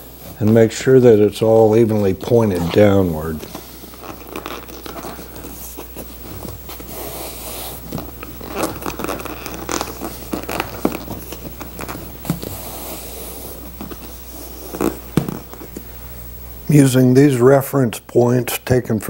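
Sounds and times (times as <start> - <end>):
hands scraping vinyl seat cover: 0.0 - 15.9.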